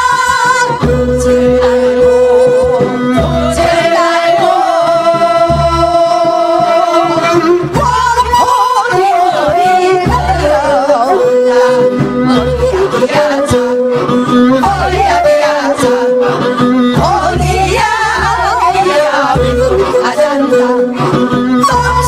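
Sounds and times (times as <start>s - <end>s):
musical accompaniment: 0.0s - 22.0s
women singing folk song: 0.0s - 22.0s.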